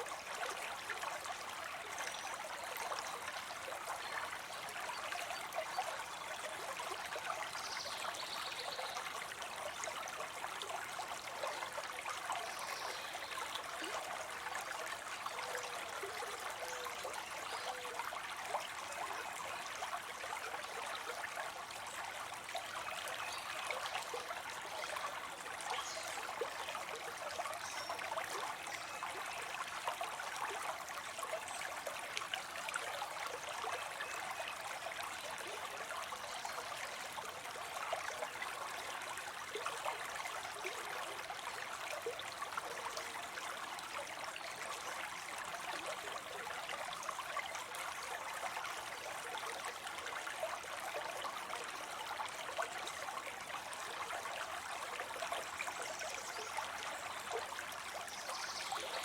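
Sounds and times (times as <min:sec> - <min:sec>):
water trickling into a pond: 0:00.0 - 0:59.0.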